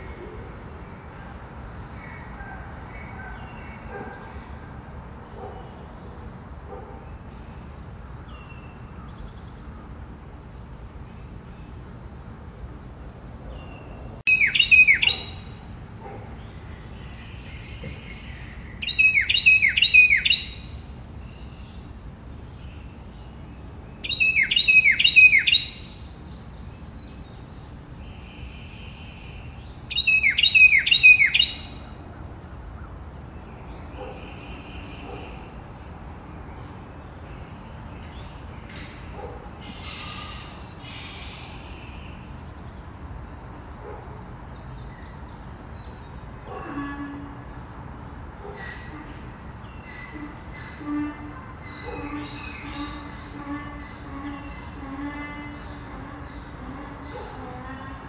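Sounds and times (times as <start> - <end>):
faint high insect drone: 0.0 - 58.0.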